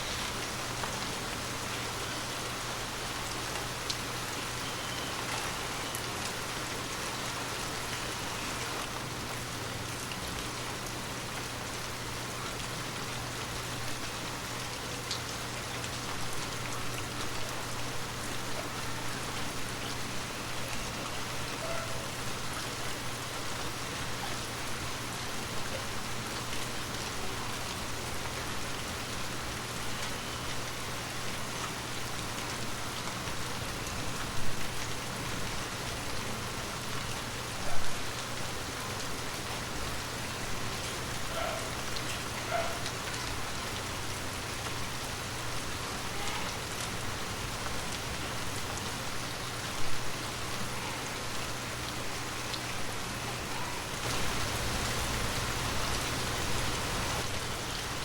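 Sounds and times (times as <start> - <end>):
rain drips ticking: 0.0 - 50.6, 51.2 - 58.0
heavy rain hissing: 0.0 - 58.0.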